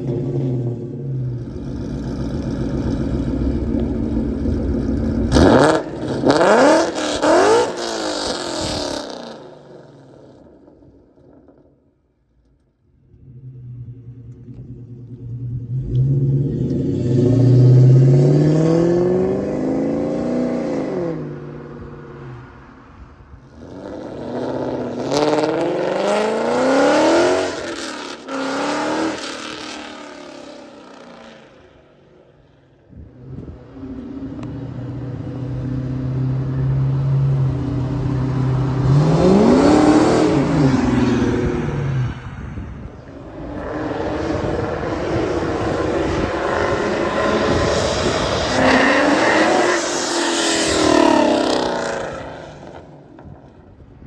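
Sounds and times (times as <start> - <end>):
car engine revving and idling: 0.0 - 11.7, 12.5 - 53.9.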